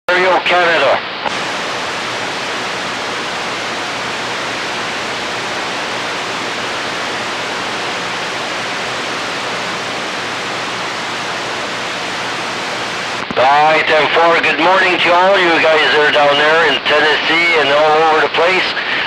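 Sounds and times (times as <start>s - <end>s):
radio static hiss: 0.1s - 19.0s.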